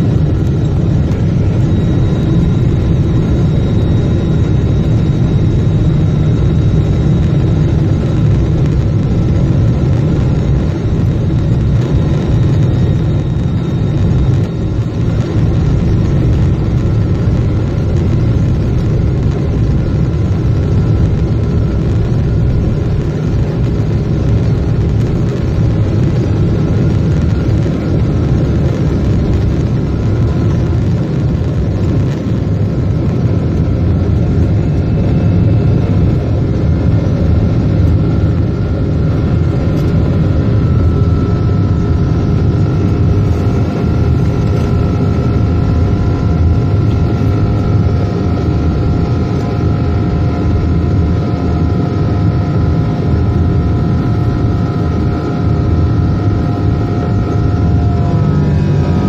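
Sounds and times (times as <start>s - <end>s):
jet engines rumbling with fan whine: 0.0s - 59.0s.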